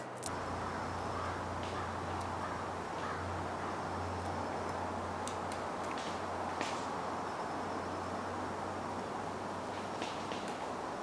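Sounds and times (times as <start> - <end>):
even rushing hiss: 0.0 - 11.0.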